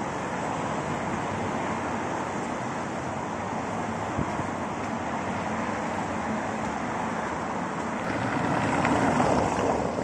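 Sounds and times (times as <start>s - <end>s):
traffic on wet road: 0.0s - 10.0s.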